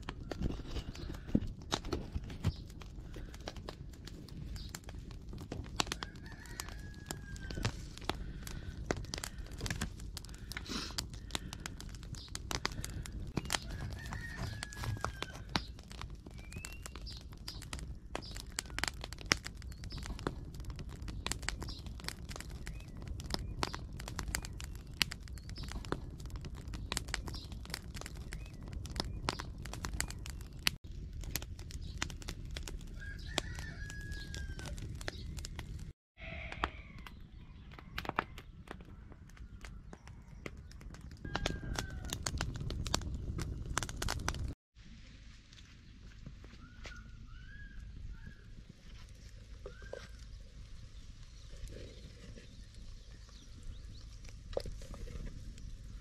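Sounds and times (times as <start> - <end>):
wood fire crackling and popping: 0.0 - 44.6, 45.2 - 56.0.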